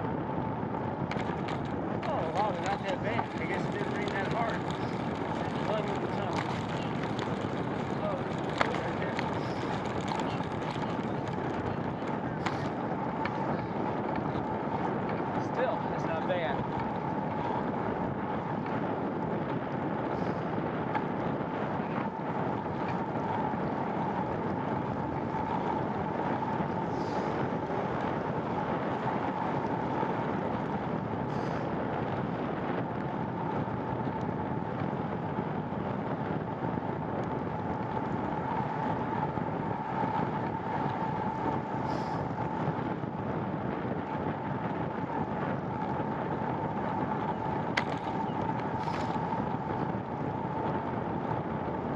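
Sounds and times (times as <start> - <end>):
bicycle road noise: 0.0 - 51.9
wind rushing: 0.0 - 51.9.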